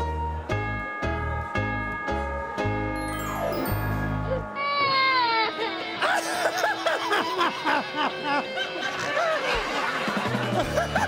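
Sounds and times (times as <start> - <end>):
light comedic music: 0.0 - 11.0.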